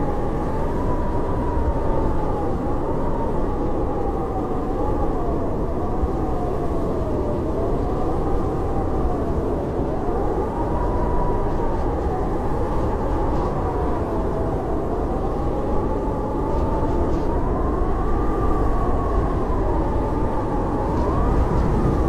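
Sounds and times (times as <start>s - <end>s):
howling wind: 0.0s - 22.0s.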